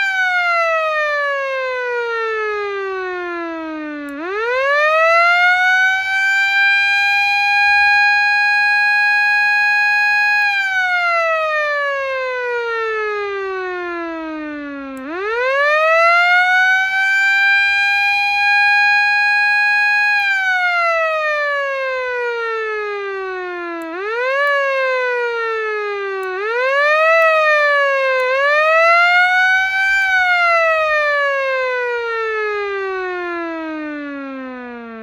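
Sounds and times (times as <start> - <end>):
motor siren wailing: 0.0 - 35.0.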